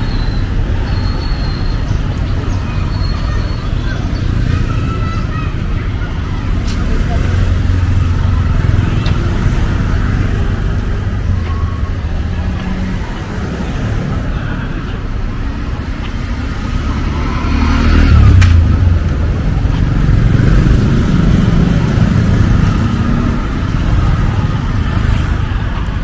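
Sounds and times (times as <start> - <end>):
roadway noise: 0.0 - 26.0
vehicles passing: 0.0 - 26.0.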